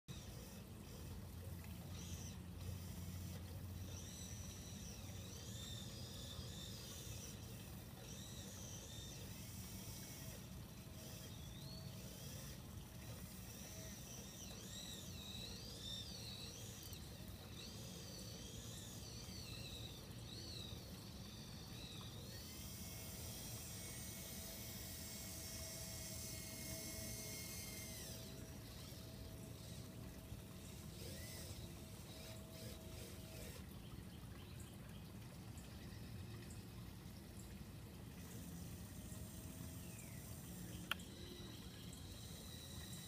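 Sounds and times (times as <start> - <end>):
small electric motors whining: 0.0 - 43.0
low steady hum: 0.1 - 43.0.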